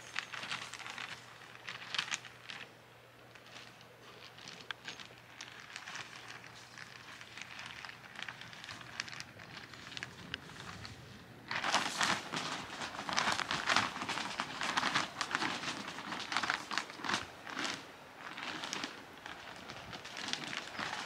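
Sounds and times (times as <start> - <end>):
plastic sacks crinkling: 0.0 - 2.7, 3.4 - 21.0.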